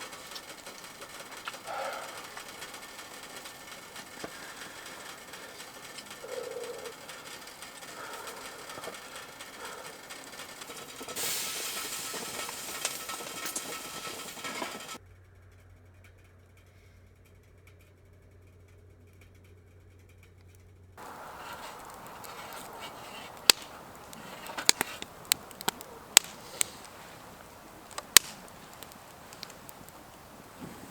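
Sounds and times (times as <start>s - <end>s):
campfire crackling and hissing: 0.0s - 15.0s, 21.0s - 30.9s
sharp pops of fire: 0.0s - 15.0s, 21.0s - 30.9s.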